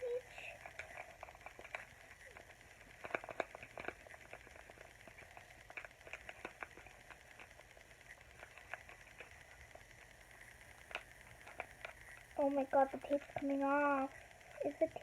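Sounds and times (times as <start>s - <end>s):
low room hum: 0.0s - 15.0s
coloring taps and scratches on paper: 0.4s - 14.1s.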